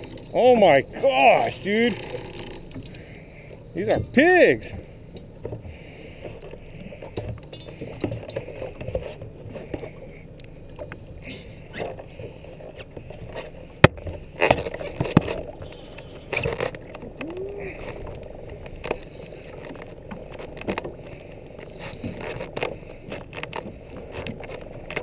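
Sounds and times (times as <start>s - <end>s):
water around boat: 0.0s - 25.0s
wind: 0.0s - 25.0s.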